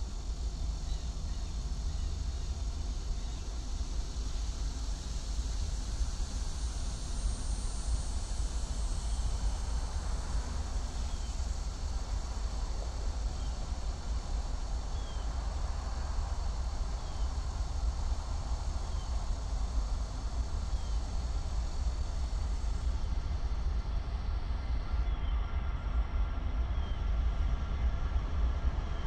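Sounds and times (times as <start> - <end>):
distant diesel locomotive rumble: 0.0 - 29.0
insects droning: 0.0 - 29.0.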